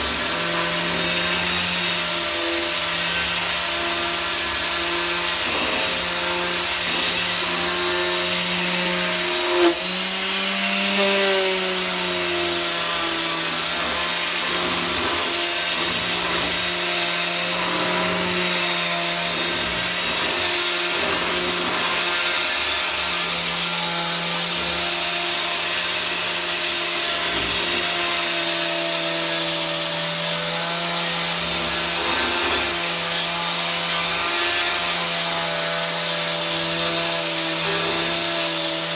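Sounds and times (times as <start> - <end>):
electric power sander running: 0.0 - 38.9.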